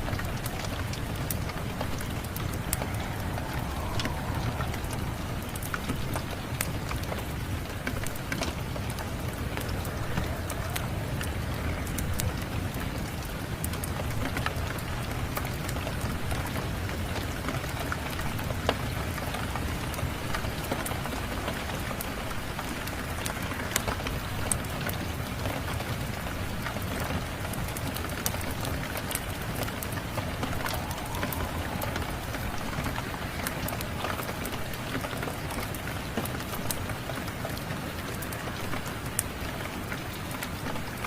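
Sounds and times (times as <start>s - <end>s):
wood fire crackling and popping: 0.0s - 25.2s, 26.1s - 41.0s
steady rain falling: 0.0s - 41.0s.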